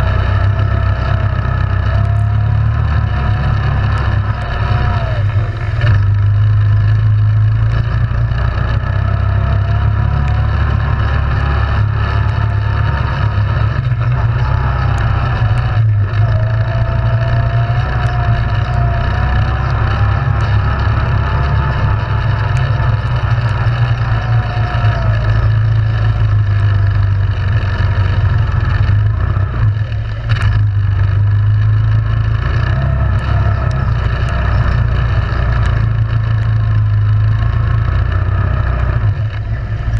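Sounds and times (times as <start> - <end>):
atv engine running: 0.0 - 39.9
faint whine: 0.0 - 39.9.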